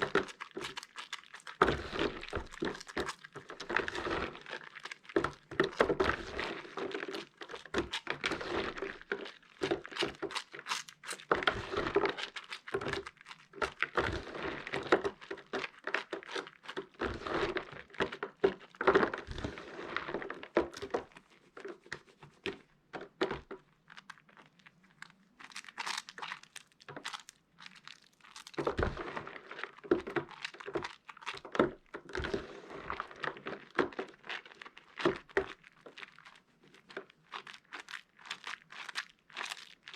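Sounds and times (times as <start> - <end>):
soap crackling and crunching: 0.0 - 39.9.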